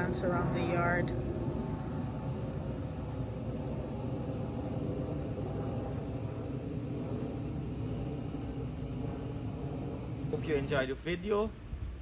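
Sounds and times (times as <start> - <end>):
crickets chirping: 0.0 - 12.0
low rumble: 0.0 - 12.0.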